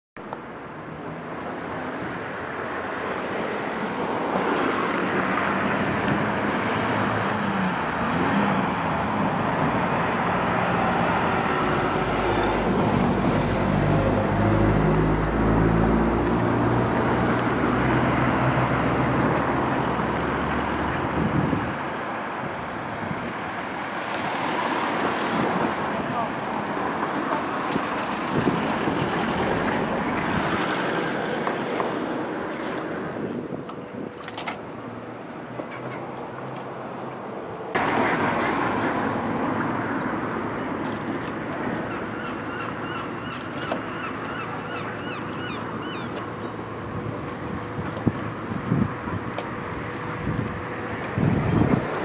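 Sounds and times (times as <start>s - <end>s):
road traffic noise: 0.2s - 52.0s.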